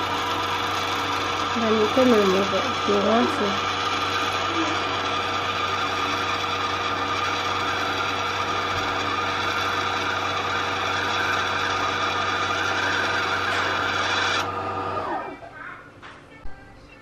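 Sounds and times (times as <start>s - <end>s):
sewing machine motor whine: 0.0s - 15.4s.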